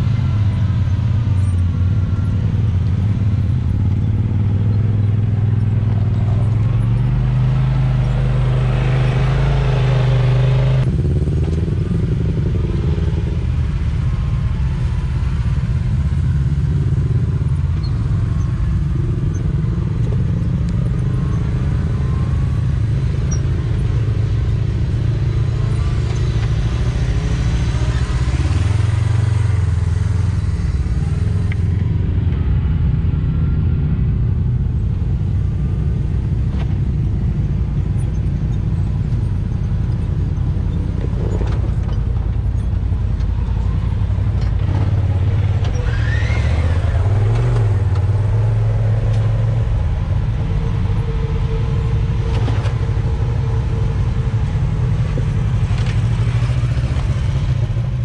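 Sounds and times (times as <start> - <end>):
utility vehicle engines rumbling: 0.0 - 58.0.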